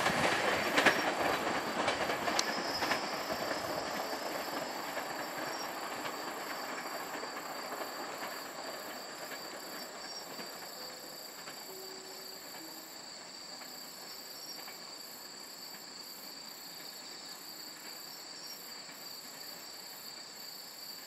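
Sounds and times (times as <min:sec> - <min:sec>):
insect chorus trilling: 0:00.4 - 0:21.0.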